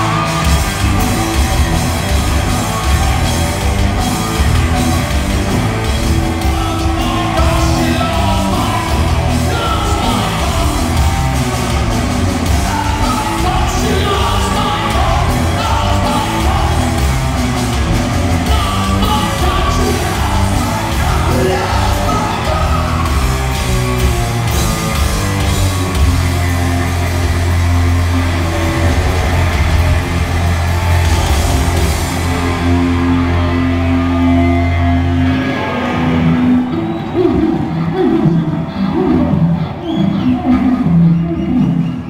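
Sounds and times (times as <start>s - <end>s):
drums: 0.0s - 42.0s
electric guitars: 0.0s - 42.0s
hard rock band playing: 0.0s - 42.0s
shouted singing: 0.0s - 42.0s.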